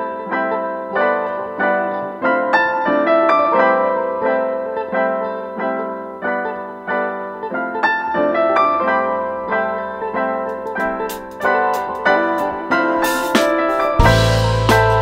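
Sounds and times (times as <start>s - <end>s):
piano notes: 0.0s - 15.0s.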